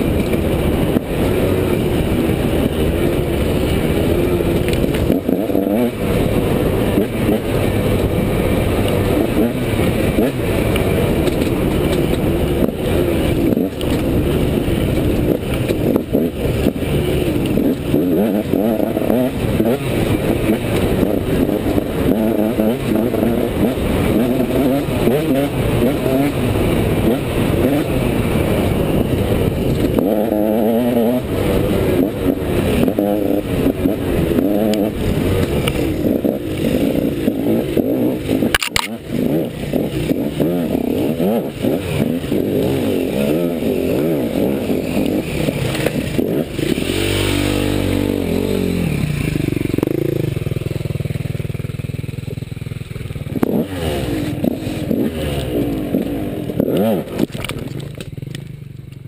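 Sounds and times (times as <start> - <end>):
dirt bike engine revving: 0.0 - 58.3.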